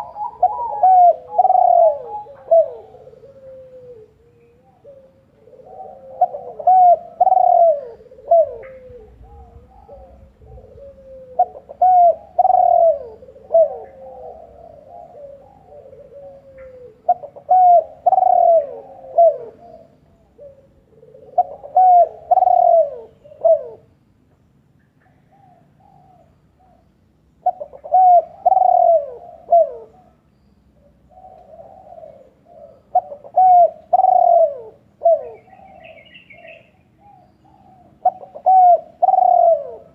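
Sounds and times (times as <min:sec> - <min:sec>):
bird calling: 0:00.0 - 0:39.9.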